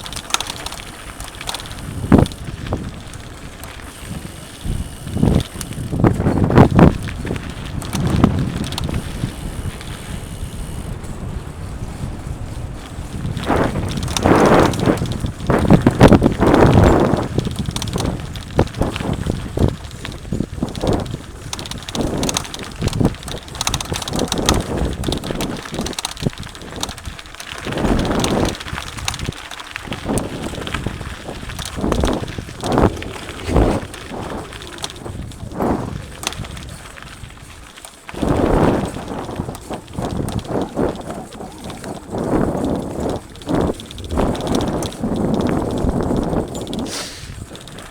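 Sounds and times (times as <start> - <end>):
bike rattling over bumps: 0.0 - 47.9
wind noise on microphone: 0.0 - 47.9.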